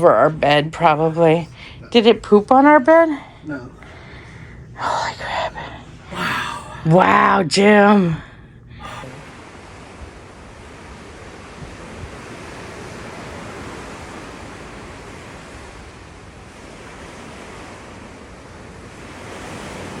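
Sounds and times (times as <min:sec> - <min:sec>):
sea waves: 0:00.0 - 0:20.0
wind: 0:00.0 - 0:20.0.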